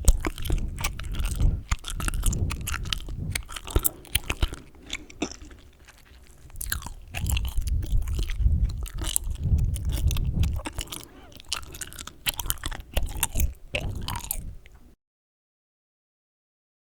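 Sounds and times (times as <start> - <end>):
low microphone rumble: 0.0 - 14.8
gum chewing wet smacking: 0.0 - 14.9.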